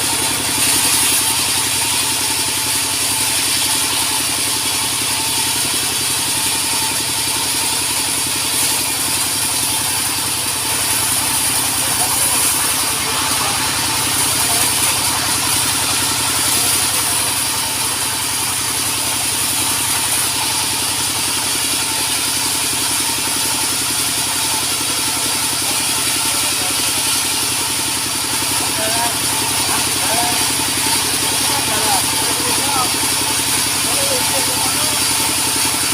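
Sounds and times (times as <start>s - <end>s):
sawmill engine idling: 0.0s - 35.9s.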